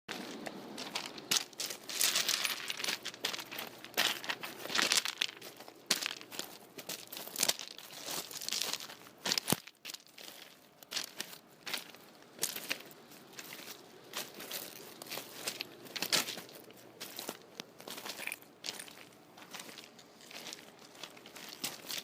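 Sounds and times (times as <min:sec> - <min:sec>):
footsteps crunching on loose rocks: 0:00.1 - 0:22.0.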